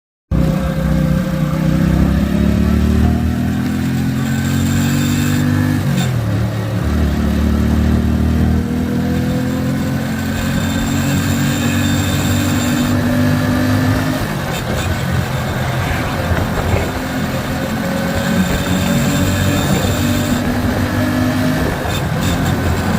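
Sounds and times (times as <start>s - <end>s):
motorcycle engine running: 0.3s - 22.9s.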